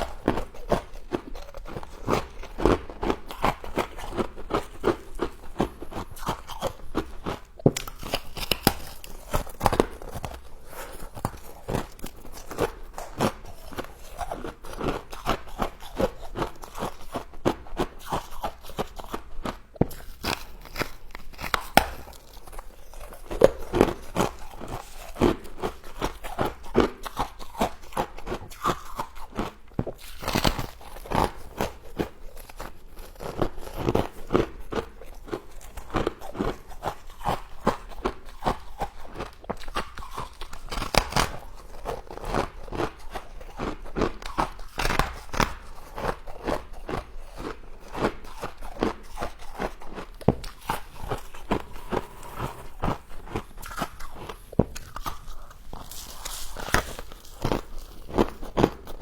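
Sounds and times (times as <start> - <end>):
chewing crunchy frost: 0.0 - 59.0.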